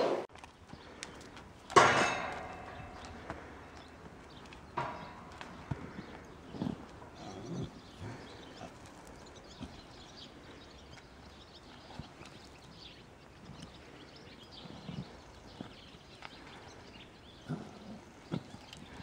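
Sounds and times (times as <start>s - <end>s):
birds chirping: 0.0s - 19.0s
horse rolling in sand: 0.3s - 19.0s.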